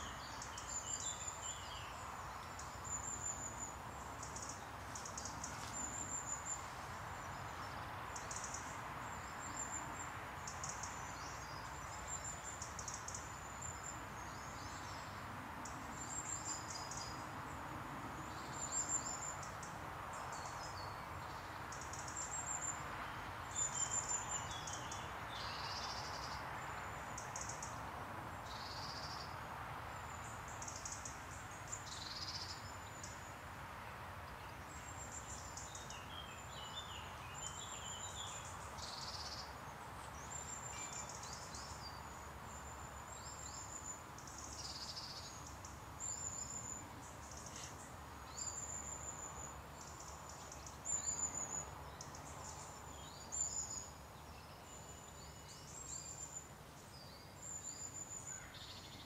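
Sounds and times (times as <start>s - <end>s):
birds singing: 0.0s - 17.2s, 18.3s - 26.4s, 30.0s - 33.3s, 34.3s - 59.0s
background hiss: 0.0s - 59.0s.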